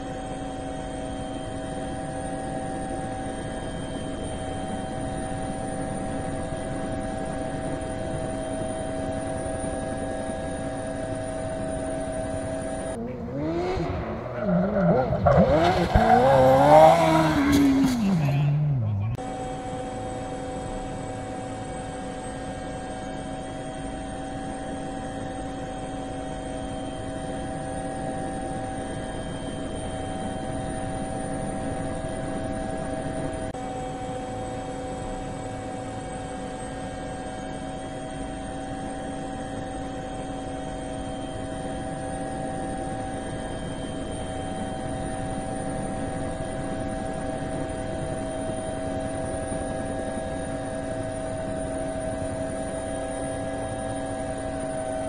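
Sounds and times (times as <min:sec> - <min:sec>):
quadcopter propellers humming: 0:00.0 - 0:55.0.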